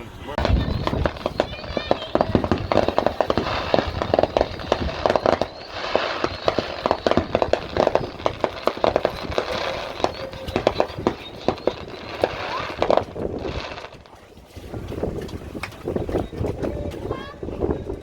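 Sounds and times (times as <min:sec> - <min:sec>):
fireworks popping and cracking: 0:00.3 - 0:17.1.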